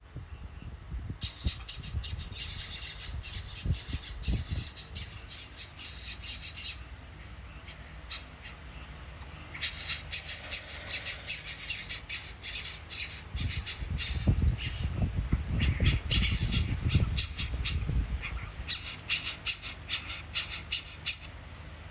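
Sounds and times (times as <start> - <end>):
nestling birds squawking: 1.2 - 21.4.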